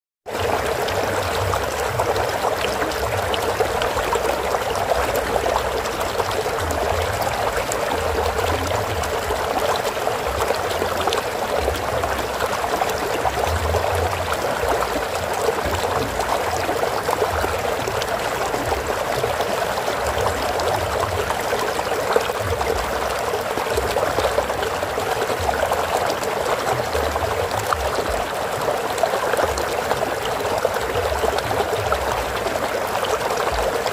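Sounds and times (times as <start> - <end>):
flowing water rushing: 0.3 - 33.9.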